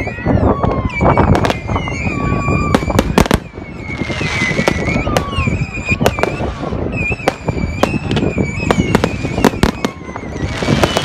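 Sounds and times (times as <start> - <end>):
fireworks bangs: 0.0 - 11.0
fireworks whistling: 0.0 - 11.0.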